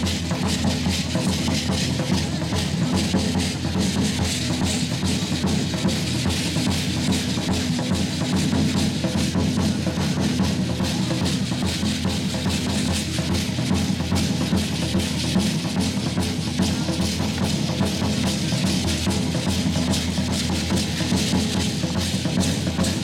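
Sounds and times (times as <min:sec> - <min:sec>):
large drum beaten in dance rhythm: 0:00.0 - 0:23.0.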